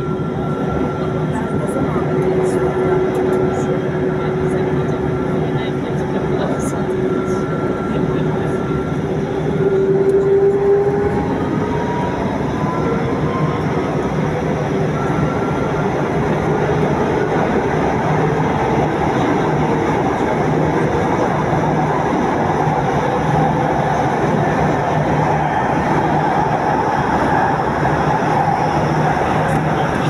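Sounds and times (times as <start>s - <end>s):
metro train wheels rumbling: 0.0s - 30.0s.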